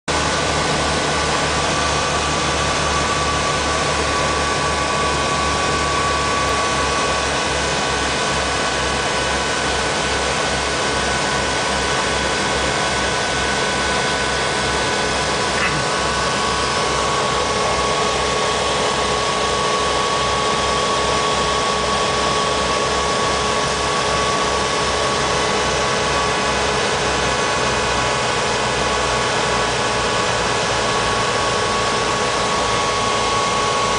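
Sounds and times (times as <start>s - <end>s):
aircraft engines droning: 0.1s - 33.9s.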